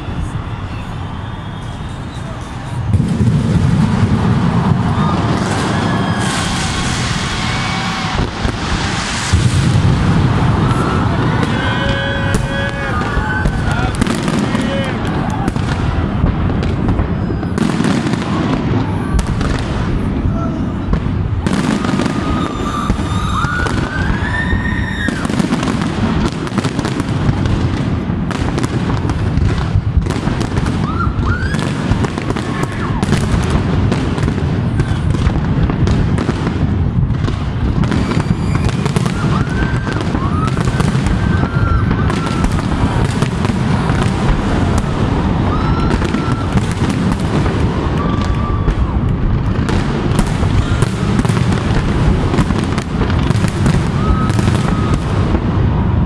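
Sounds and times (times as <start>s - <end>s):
fireworks bursts and crackling: 0.0s - 56.0s.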